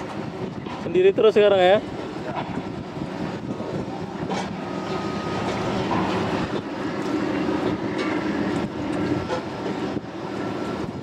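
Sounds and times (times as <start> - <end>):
ship diesel engines droning: 0.0 - 11.0.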